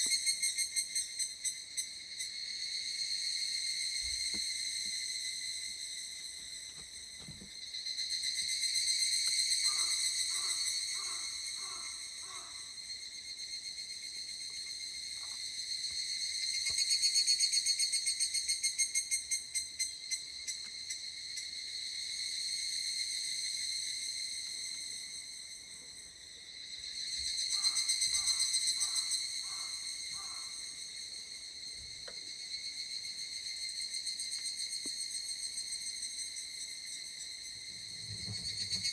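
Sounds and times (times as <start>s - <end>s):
chorus of cicadas calling: 0.0s - 38.9s.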